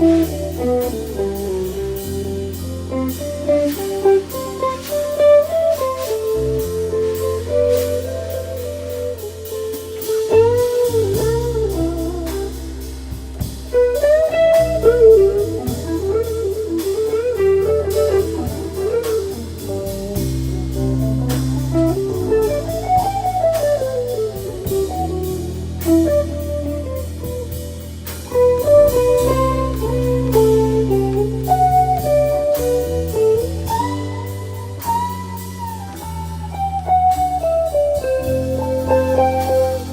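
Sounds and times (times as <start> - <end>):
bass: 0.0 - 39.9
drum kit: 0.0 - 39.9
electric guitar solo: 0.0 - 39.9.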